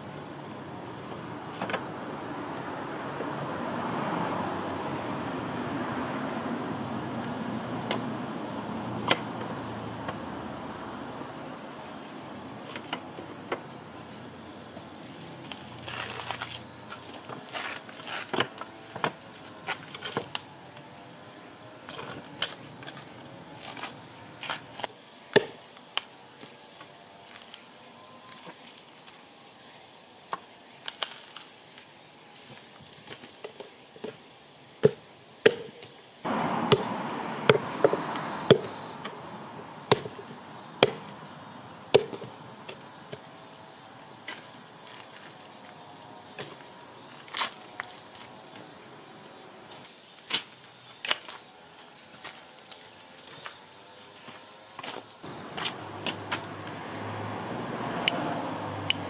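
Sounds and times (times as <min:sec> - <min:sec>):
insects chirping faintly: 0:00.0 - 0:59.0.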